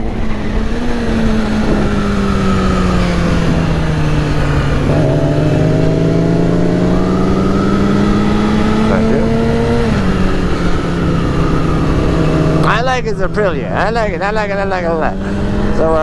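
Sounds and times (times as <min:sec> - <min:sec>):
wind rush on microphone: 0:00.0 - 0:13.4
motorcycle engine at road speed: 0:00.0 - 0:16.0.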